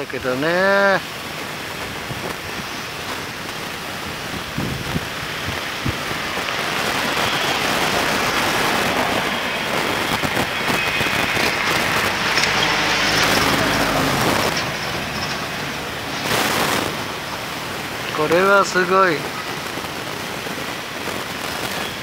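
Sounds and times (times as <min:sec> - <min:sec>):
road traffic hiss: 0:00.0 - 0:22.0.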